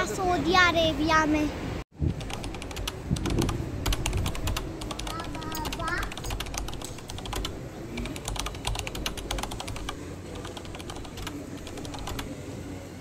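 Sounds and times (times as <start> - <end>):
airport terminal hum: 0.0 - 13.0.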